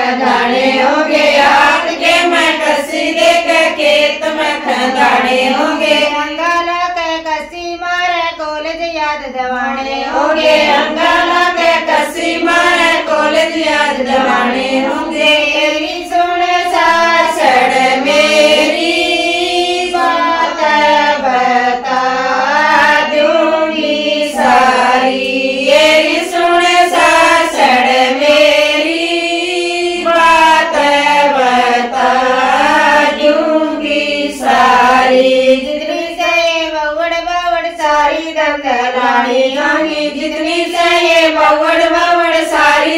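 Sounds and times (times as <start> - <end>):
women singing folk song: 0.0 - 42.9.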